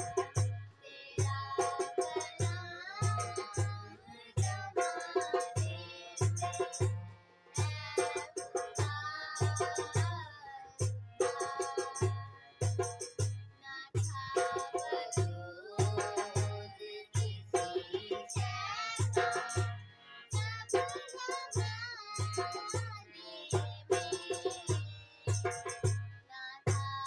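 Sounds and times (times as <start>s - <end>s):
girls singing together: 0.0s - 6.9s, 7.5s - 13.0s, 13.6s - 27.0s.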